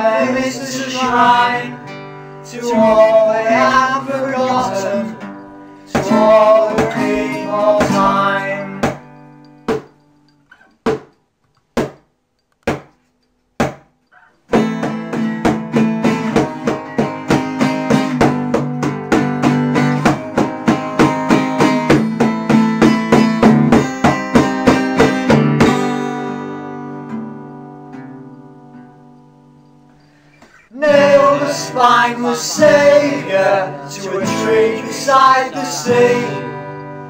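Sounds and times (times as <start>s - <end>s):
acoustic guitar strumming: 0.0s - 12.1s, 12.7s - 37.0s.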